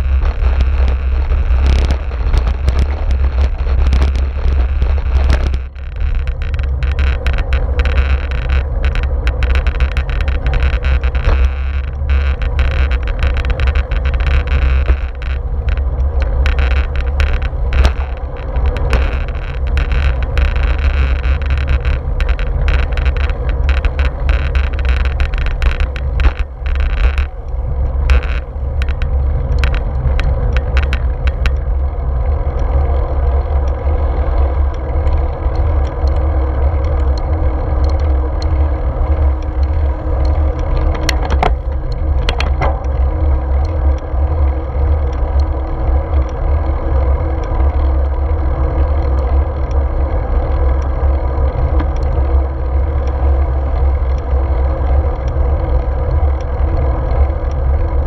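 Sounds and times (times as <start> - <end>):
bike clicks and rattles: 0.0 - 58.0
tyre and road noise: 0.0 - 58.0
wind rumbling on microphone: 0.0 - 58.0.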